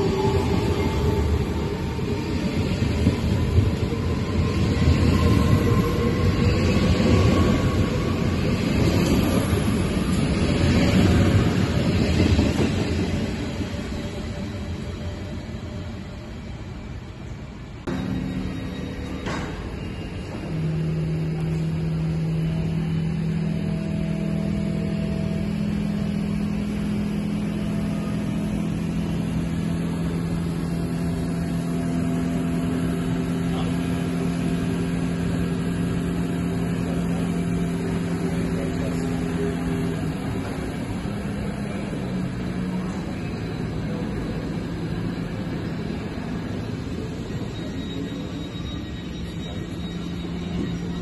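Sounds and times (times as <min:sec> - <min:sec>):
electric train equipment humming: 0:00.0 - 0:51.0.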